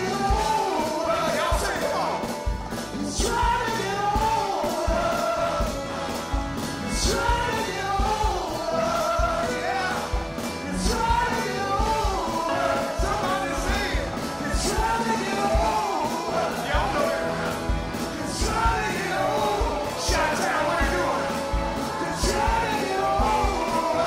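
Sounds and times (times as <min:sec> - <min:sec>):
live soul band: 0:00.0 - 0:24.0
steady drum beat: 0:00.0 - 0:24.0
voices singing: 0:00.0 - 0:24.0.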